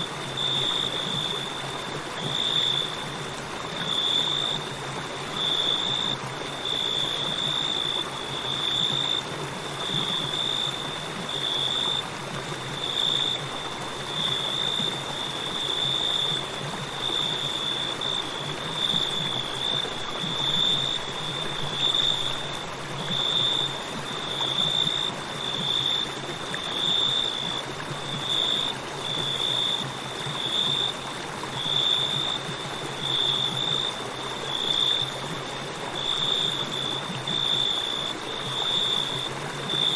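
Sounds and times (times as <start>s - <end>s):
crickets chirping: 0.0s - 39.9s
river flowing: 0.0s - 39.9s.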